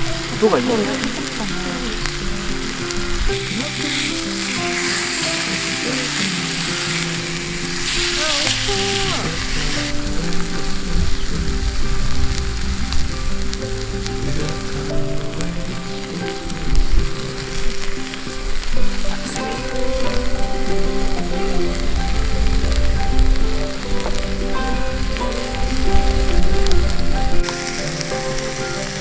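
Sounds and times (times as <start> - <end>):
steak sizzling in skillet: 0.0 - 29.0.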